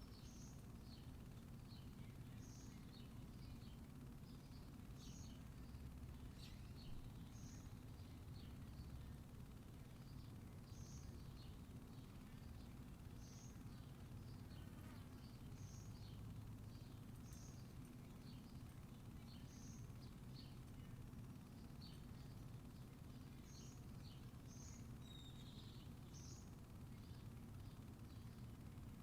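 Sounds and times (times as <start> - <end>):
faint bird chirps: 0.0 - 28.8
low background hum: 0.0 - 29.0.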